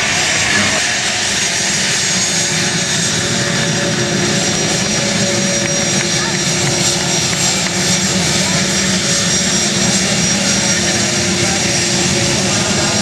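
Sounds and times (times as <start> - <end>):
jet engines running with whine: 0.0 - 13.0.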